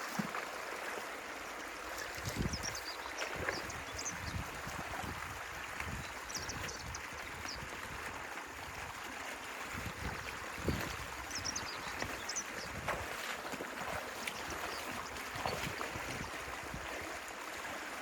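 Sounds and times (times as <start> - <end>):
stream water gurgling: 0.0 - 18.0.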